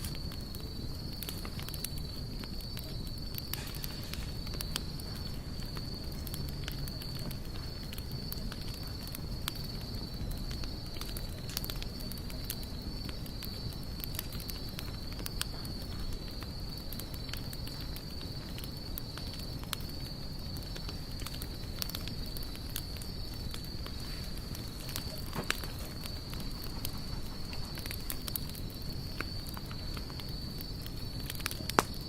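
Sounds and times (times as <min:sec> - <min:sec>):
campfire crackling and popping: 0:00.0 - 0:32.0
insect trill: 0:00.0 - 0:32.0.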